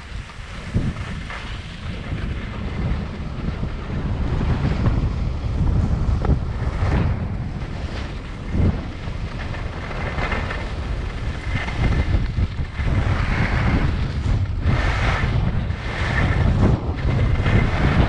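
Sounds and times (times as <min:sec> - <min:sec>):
skis scraping over packed snow: 0:00.0 - 0:18.0
wind buffeting microphone: 0:00.0 - 0:18.0.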